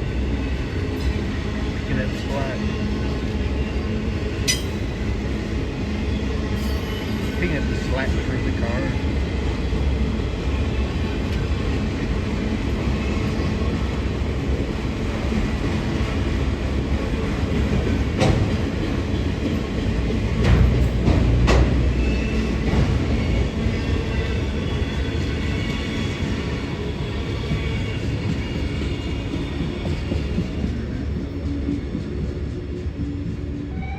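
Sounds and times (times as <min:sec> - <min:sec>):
train rumbling on track: 0:00.0 - 0:33.9.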